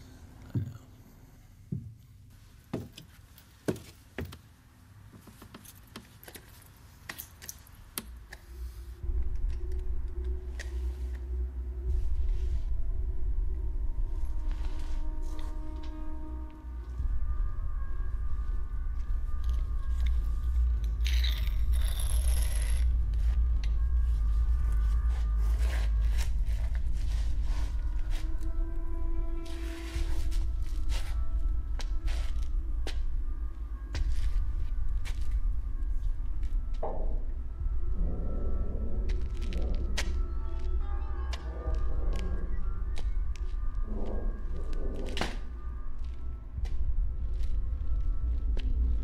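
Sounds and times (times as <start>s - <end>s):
low rumbling drone: 8.5s - 49.0s.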